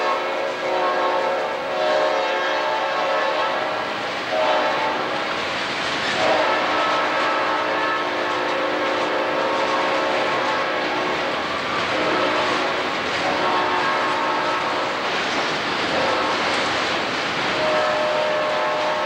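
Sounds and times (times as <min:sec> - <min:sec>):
steel wheels on rail: 0:00.0 - 0:19.0.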